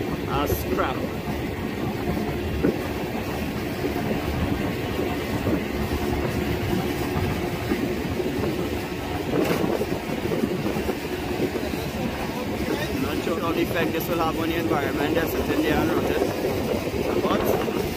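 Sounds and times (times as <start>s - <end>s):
boat engine running: 0.0s - 17.9s
water along hull: 0.0s - 17.9s.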